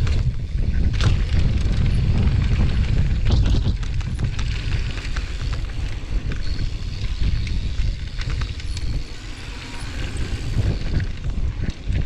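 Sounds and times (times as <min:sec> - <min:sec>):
bike rattling over bumps: 0:00.0 - 0:12.0
bike tyre noise: 0:00.0 - 0:12.0
wind buffeting microphone: 0:00.0 - 0:12.0.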